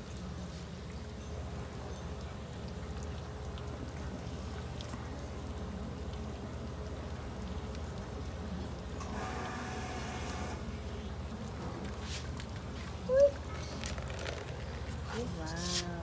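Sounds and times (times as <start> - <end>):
water boiling in a covered pot: 0.0 - 16.0.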